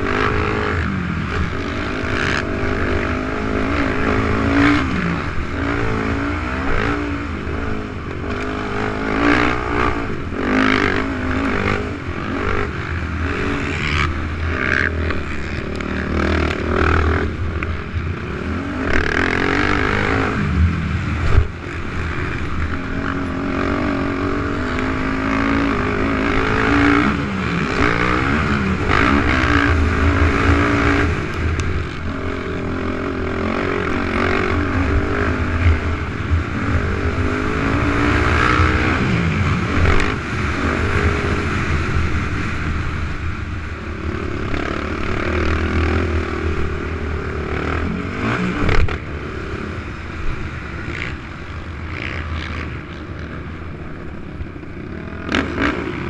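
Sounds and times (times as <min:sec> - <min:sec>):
quad engine revving: 0:00.0 - 0:42.3, 0:43.9 - 0:49.7, 0:54.8 - 0:56.0.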